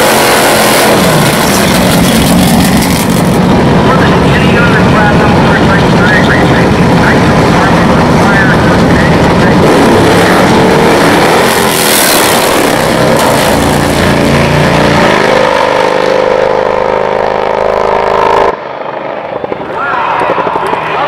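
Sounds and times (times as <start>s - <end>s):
motorcycles racing at full throttle: 0.0s - 21.0s.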